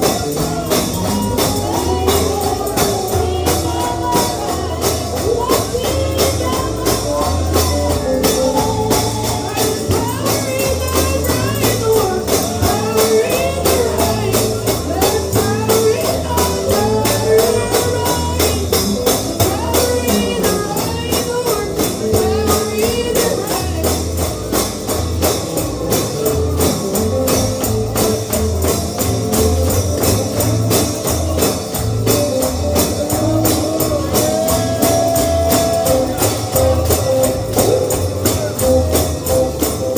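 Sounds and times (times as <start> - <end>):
fast tambourine beat: 0.0 - 39.9
gospel music: 0.0 - 39.9
pulsing bass: 0.0 - 39.9.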